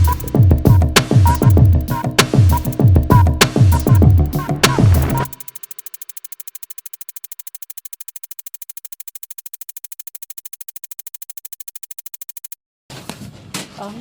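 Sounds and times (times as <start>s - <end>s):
rapid electronic pulsing: 0.0s - 12.6s.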